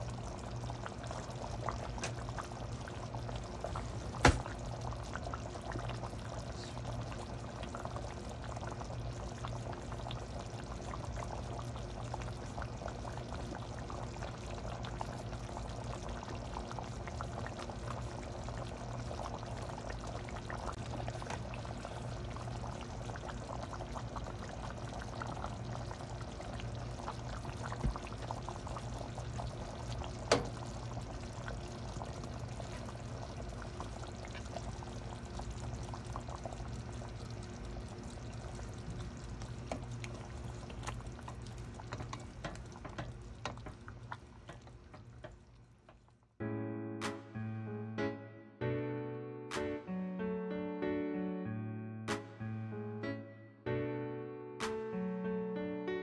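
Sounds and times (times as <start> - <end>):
stew bubbling and crackling: 0.0 - 46.4.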